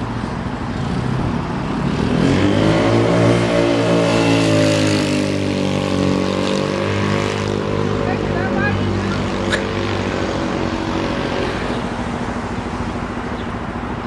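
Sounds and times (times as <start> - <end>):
scooter engine passing by: 0.7 - 14.0.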